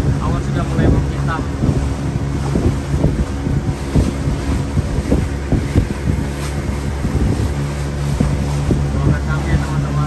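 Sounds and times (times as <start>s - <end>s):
boat engine running: 0.0s - 10.0s
wind buffeting microphone: 0.0s - 10.0s.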